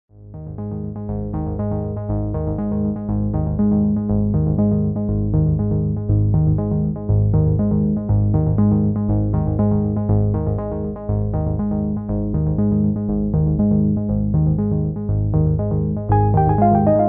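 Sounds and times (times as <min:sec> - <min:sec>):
background music with bass line: 0:00.2 - 0:17.0.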